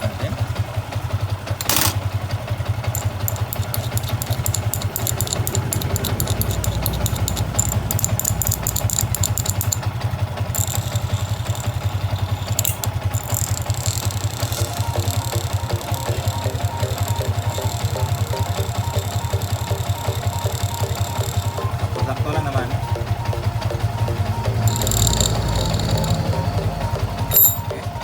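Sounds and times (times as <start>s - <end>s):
motorcycle engine idling: 0.0s - 28.0s
fast light ticking: 2.8s - 27.6s.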